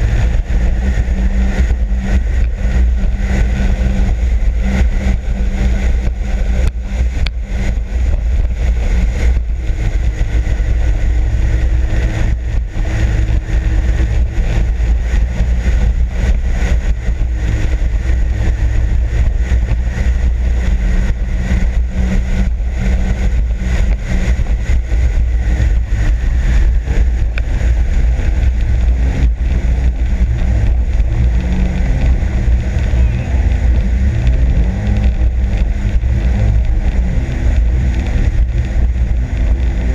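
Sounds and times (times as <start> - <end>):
jet ski engine drone: 0.0 - 39.9
rushing wind and water: 0.0 - 39.9.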